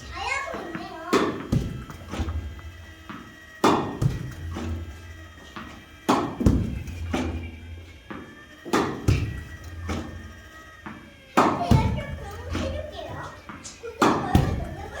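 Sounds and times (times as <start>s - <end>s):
ball thud: 0.1s - 15.0s
racket striking tennis ball: 0.1s - 15.0s.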